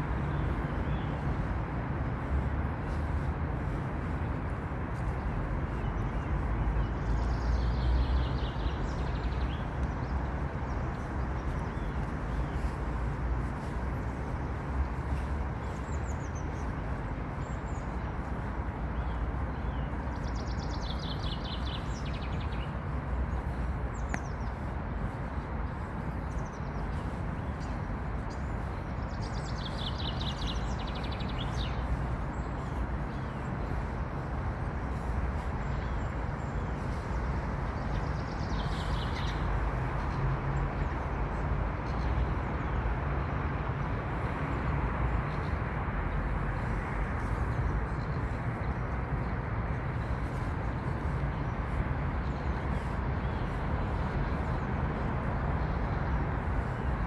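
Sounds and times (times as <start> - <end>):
songbirds singing trills: 0.0 - 57.0.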